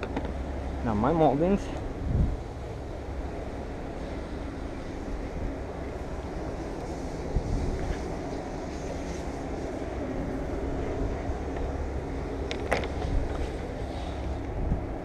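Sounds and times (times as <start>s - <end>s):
faint steady hum: 0.0s - 15.0s
low background rumble: 0.0s - 15.0s.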